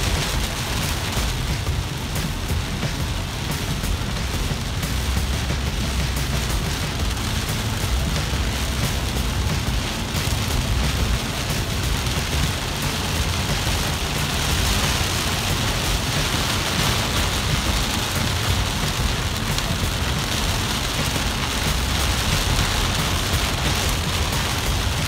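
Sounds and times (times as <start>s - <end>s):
heavy rain on car windshield: 0.0s - 25.0s
low road rumble: 0.0s - 25.0s.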